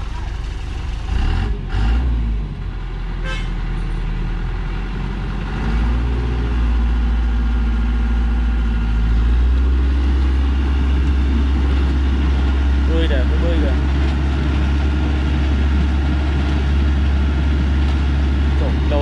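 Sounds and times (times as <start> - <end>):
truck diesel engine labouring: 0.0 - 19.0.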